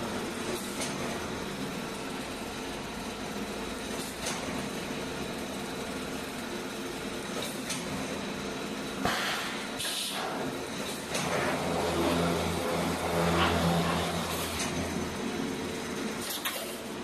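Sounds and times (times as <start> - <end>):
noisy welding bursts: 0.0 - 17.0
welding machine hum: 0.0 - 17.0.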